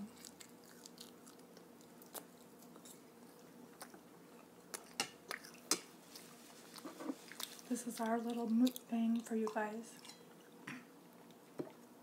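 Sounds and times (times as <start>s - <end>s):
chewing food: 0.0s - 11.9s.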